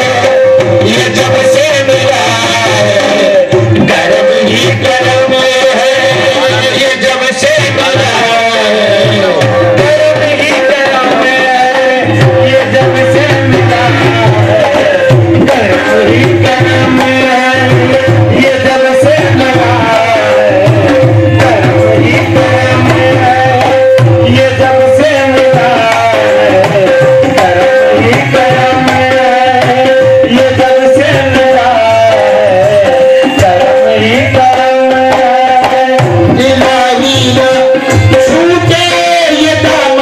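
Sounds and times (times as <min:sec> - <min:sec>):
hand drums fast rhythm: 0:00.0 - 0:40.0
harmonium drone: 0:00.0 - 0:40.0
person singing: 0:00.0 - 0:40.0.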